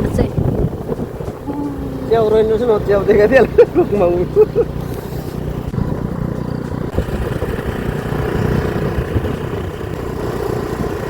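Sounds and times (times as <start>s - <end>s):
motorbike engine running: 0.0s - 11.0s
wind rumbling on microphone: 0.0s - 11.0s.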